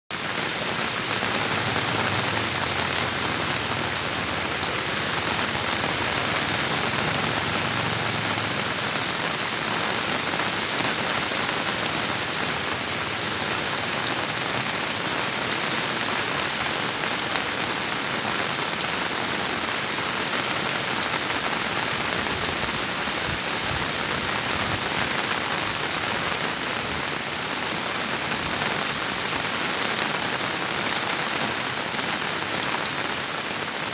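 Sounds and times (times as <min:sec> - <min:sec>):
rain on a corrugated roof: 0:00.1 - 0:33.9.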